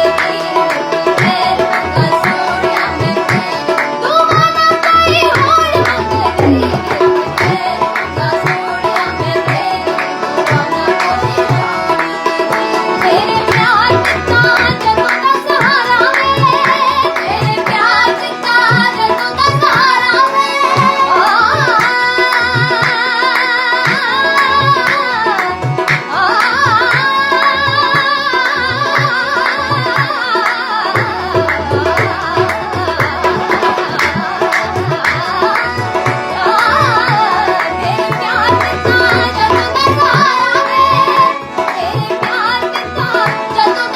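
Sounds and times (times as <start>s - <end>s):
tabla drumming: 0.0s - 43.9s
woman singing: 0.0s - 43.9s.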